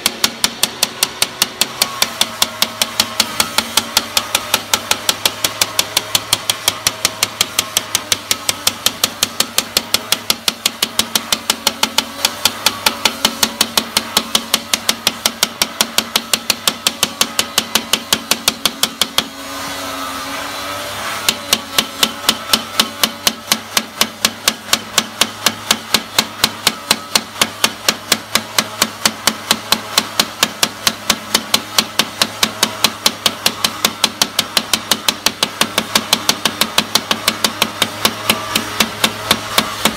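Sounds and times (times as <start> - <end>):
metal rod tapping on glass: 0.0 - 19.4, 21.0 - 39.9.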